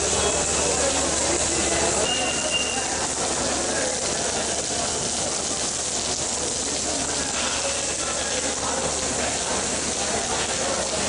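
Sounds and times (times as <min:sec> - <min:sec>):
faint voices: 0:00.0 - 0:11.0
rain hissing: 0:00.0 - 0:11.0.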